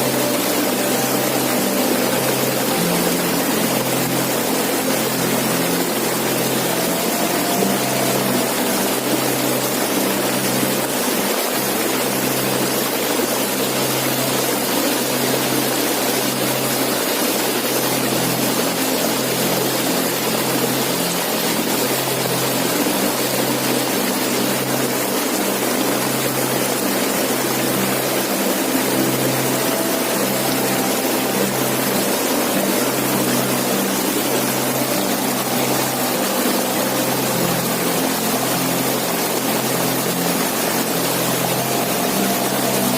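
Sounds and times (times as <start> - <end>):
waterfall roaring: 0.0 - 42.9.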